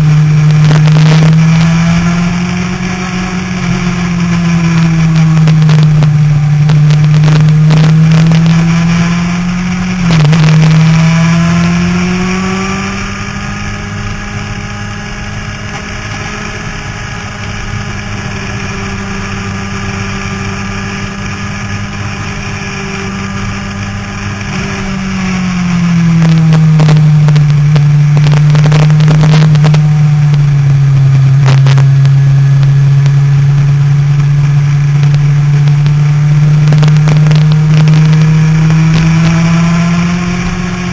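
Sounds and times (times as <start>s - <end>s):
motorcycle engine at speed: 0.0s - 40.9s.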